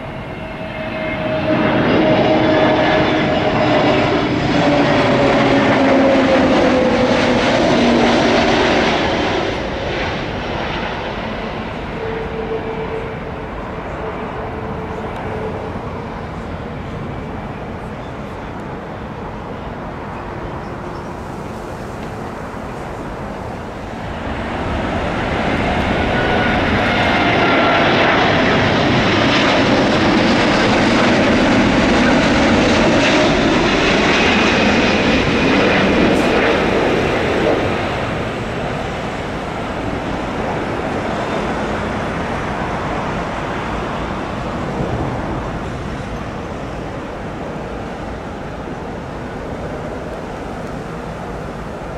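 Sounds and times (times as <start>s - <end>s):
jet airliner flying past: 0.0s - 51.9s.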